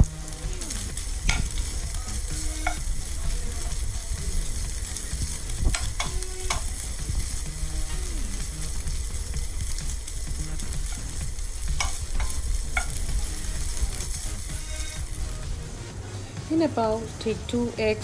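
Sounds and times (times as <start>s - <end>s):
utensil clicking against pan: 0.0s - 15.3s
chicken sizzling in a frying pan: 0.0s - 18.0s.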